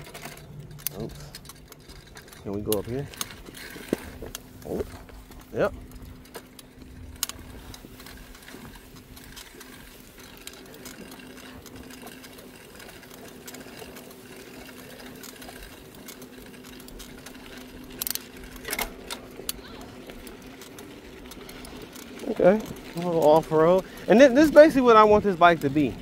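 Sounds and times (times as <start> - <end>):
bike drivetrain clicking whir: 0.0 - 26.0
constant low hum: 0.0 - 26.0.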